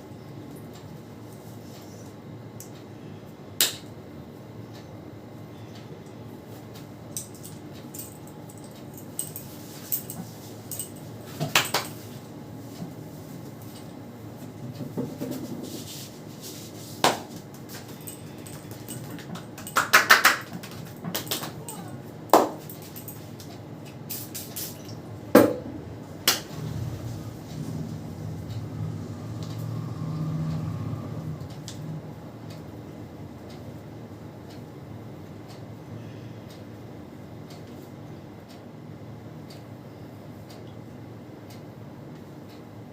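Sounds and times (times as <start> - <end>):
low steady hum: 0.0 - 41.8.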